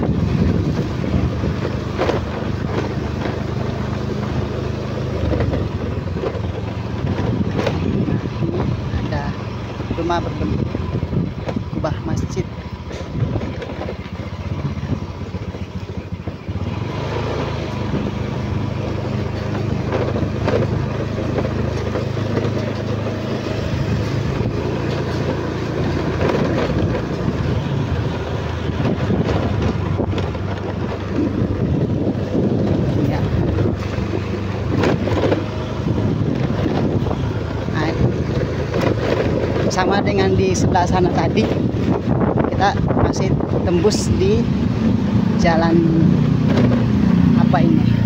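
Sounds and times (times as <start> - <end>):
small motorcycle engine running: 0.0 - 48.0
wind noise on microphone: 0.0 - 48.0.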